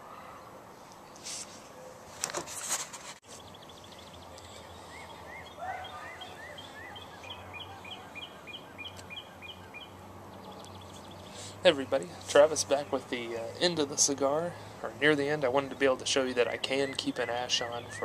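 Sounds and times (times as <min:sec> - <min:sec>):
songbird chirping: 0:03.2 - 0:18.0.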